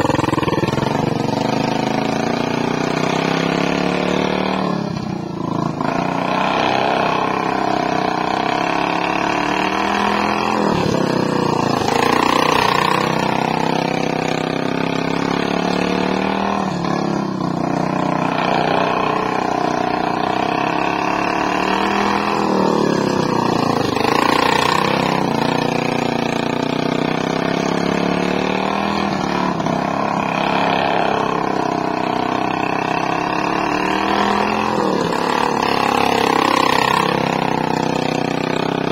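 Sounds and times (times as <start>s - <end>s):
lawn mower engine revving: 0.0s - 38.9s.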